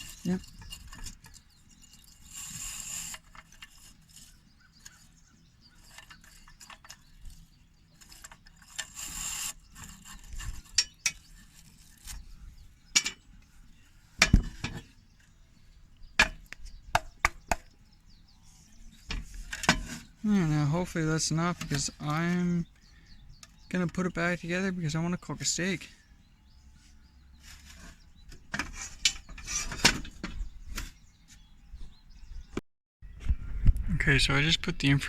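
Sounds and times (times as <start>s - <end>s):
brush scraping inside burner: 0.0s - 32.1s.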